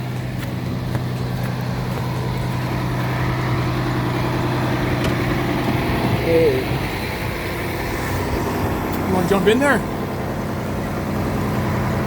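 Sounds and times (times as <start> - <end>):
fire truck engine idling: 0.0 - 12.0.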